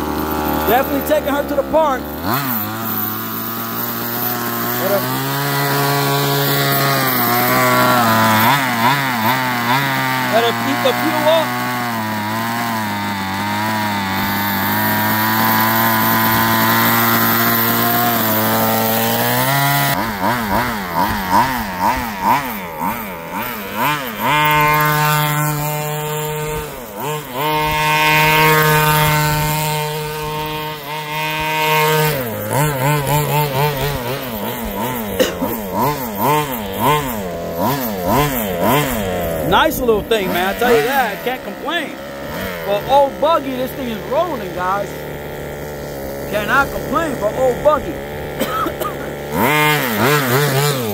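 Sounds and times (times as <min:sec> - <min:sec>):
small fuel engine revving: 0:00.0 - 0:50.9.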